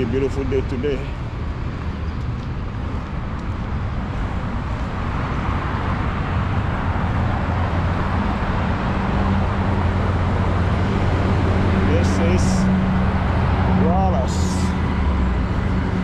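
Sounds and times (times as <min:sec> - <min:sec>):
road traffic: 0:00.0 - 0:16.0
vehicle engine hum: 0:00.0 - 0:16.0.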